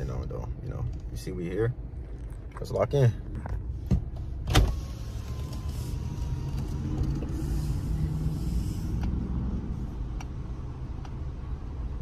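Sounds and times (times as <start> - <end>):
car engine: 0.0 - 12.0
road rumble: 0.0 - 12.0.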